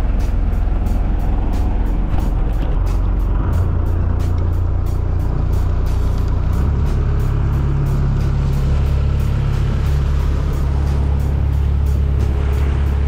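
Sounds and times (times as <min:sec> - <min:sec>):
boat diesel engine droning: 0:00.0 - 0:13.0
water rushing past hull: 0:00.0 - 0:13.0.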